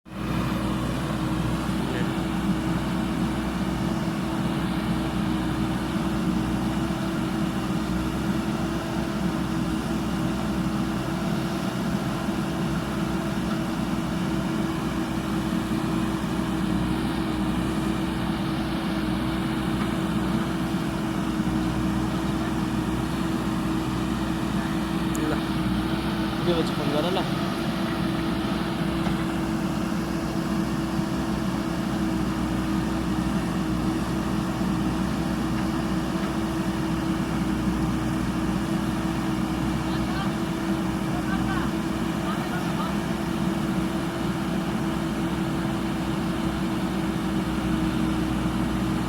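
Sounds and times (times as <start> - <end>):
diesel engine running: 0.1 - 49.0.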